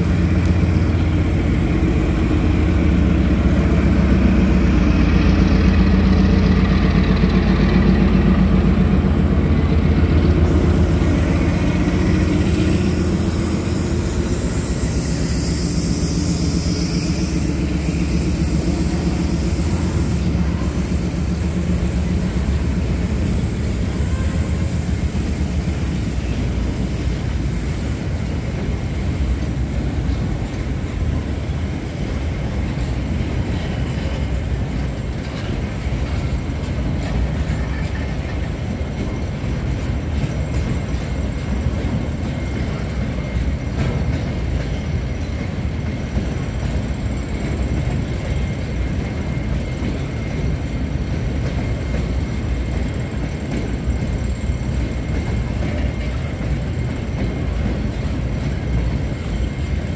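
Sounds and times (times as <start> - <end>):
locomotive engine drone: 0.0 - 59.9
train wheels on rails: 0.0 - 59.9.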